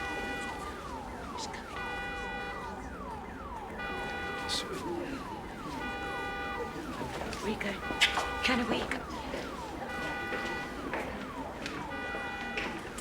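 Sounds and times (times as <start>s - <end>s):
vehicle alarm sounding: 0.0s - 13.0s.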